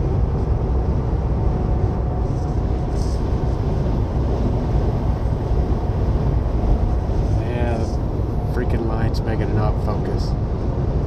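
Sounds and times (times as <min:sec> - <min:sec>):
faint steady hum: 0:00.0 - 0:11.0
truck engine and road noise: 0:00.0 - 0:11.0.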